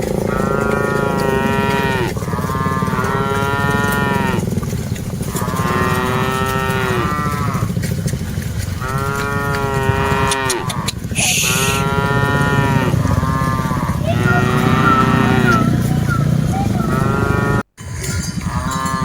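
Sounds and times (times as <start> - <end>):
cattle mooing: 0.0 - 17.6, 18.4 - 19.0.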